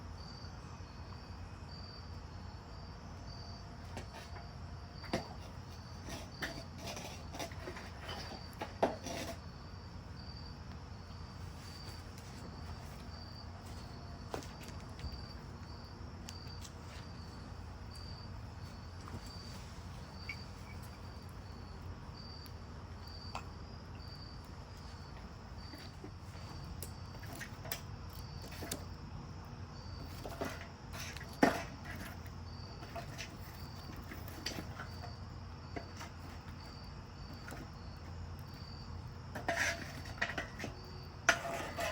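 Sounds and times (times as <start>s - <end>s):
cricket chirping: 0.0s - 41.9s.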